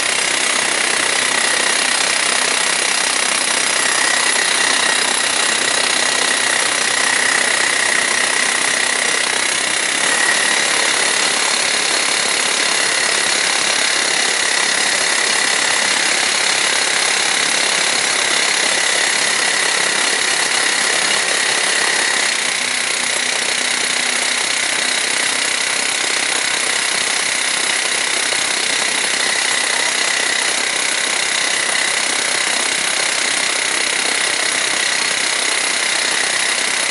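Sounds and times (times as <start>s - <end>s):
rock drill hammering into concrete: 0.0s - 36.9s.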